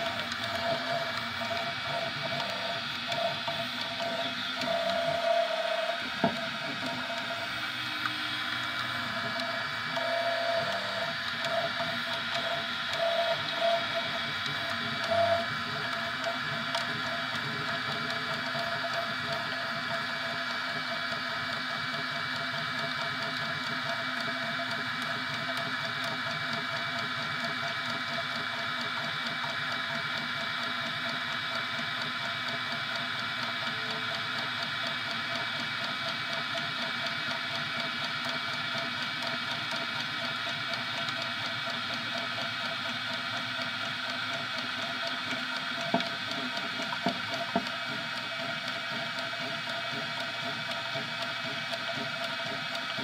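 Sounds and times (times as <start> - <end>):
printer mechanical whir: 0.0 - 53.0.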